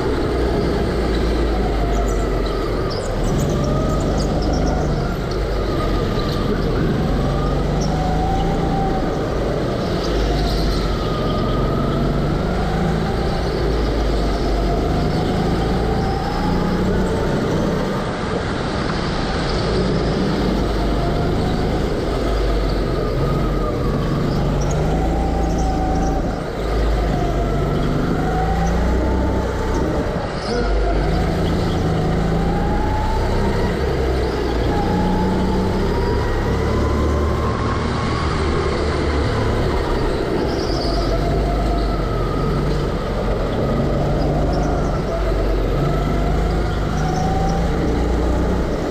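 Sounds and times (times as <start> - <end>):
go-kart engine revving: 0.0 - 18.2, 19.6 - 48.9.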